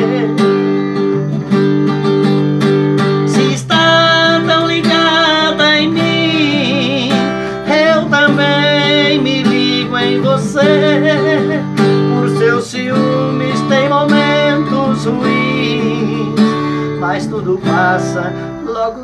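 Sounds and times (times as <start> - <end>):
man singing: 0.0 - 0.7, 3.2 - 19.0
acoustic guitar strumming: 0.0 - 19.0.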